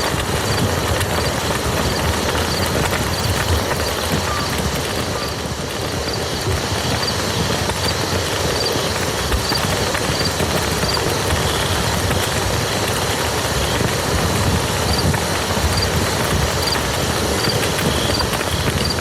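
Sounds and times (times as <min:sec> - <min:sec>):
rain falling on mud: 0:00.0 - 0:19.0.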